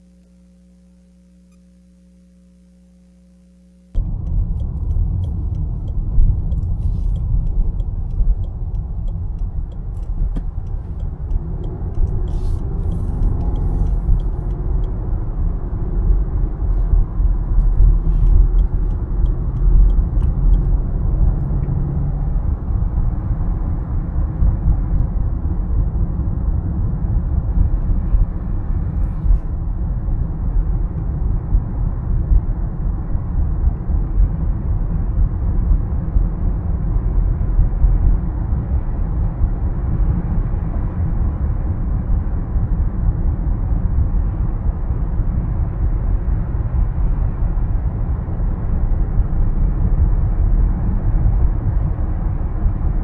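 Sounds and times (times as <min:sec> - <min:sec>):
faint hum: 0:00.0 - 0:53.0
road and wind noise rumble: 0:04.0 - 0:53.0.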